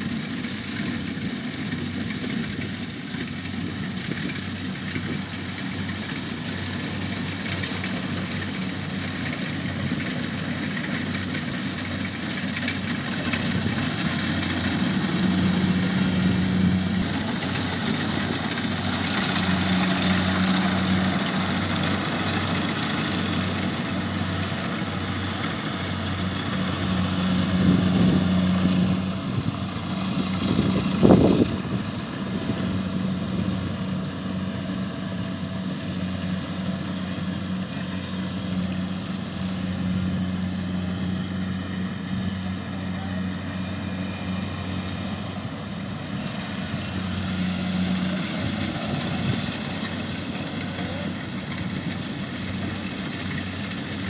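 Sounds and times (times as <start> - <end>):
diesel engine humming: 0.0 - 54.0.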